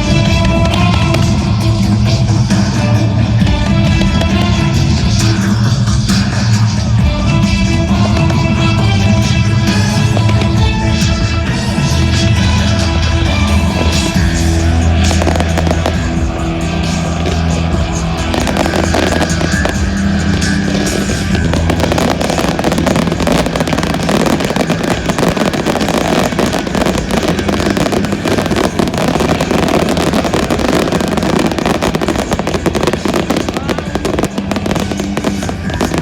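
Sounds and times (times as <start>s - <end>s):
fireworks crackling: 0.0s - 36.0s
show music: 0.0s - 36.0s.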